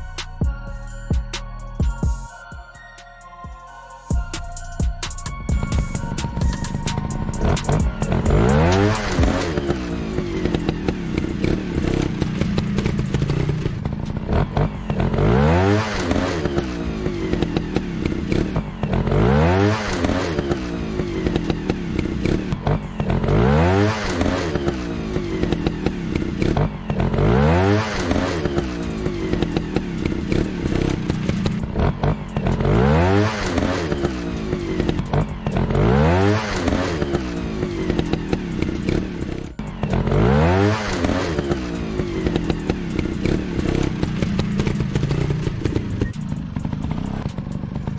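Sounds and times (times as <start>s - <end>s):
dirt bike engine revving: 5.6s - 47.9s.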